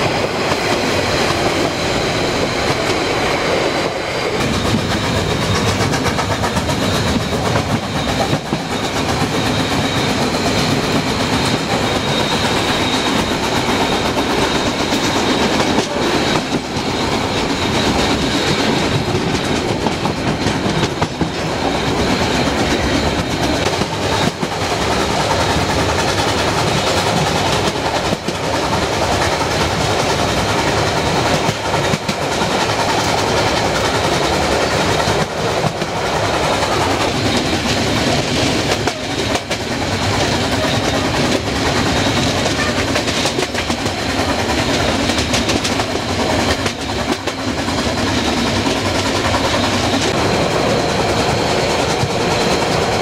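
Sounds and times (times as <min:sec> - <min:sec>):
train coaches rumbling: 0:00.0 - 0:53.0
wheels clickety-clack over rail joints: 0:00.0 - 0:53.0.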